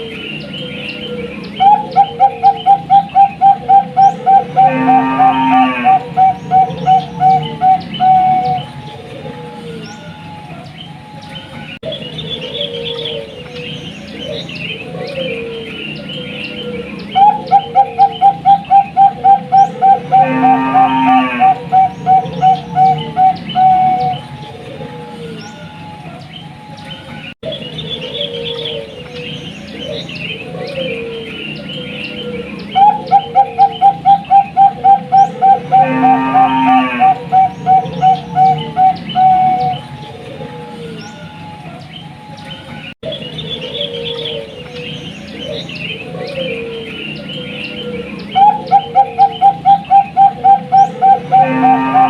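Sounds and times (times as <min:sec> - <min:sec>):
small birds chirping: 0:00.0 - 0:05.0, 0:05.6 - 0:20.4, 0:21.3 - 0:36.0, 0:37.0 - 0:52.0
doves cooing: 0:00.0 - 0:52.0.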